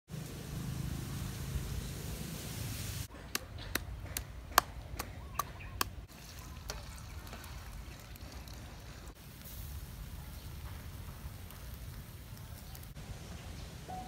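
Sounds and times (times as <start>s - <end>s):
outdoor background noise: 0.1s - 14.0s.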